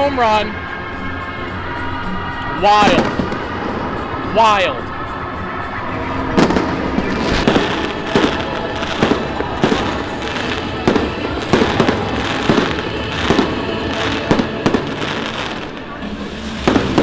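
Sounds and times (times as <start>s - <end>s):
fireworks crackling: 0.0s - 17.0s
fireworks bangs: 2.5s - 17.0s.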